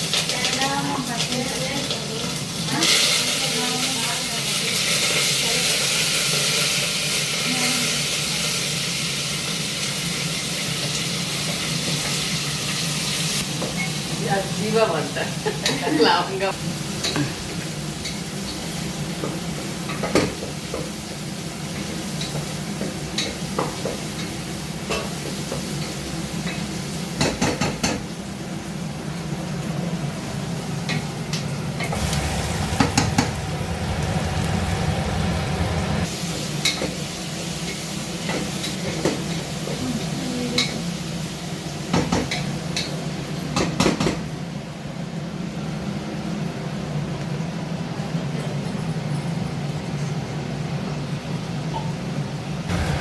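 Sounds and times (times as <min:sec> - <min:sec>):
chicken sizzling in a pan: 0:00.0 - 0:47.5.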